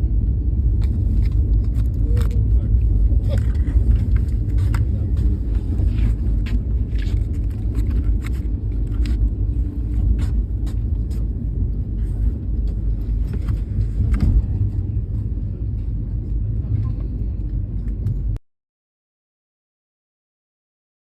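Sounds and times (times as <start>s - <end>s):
train rumbling: 0.0s - 18.4s.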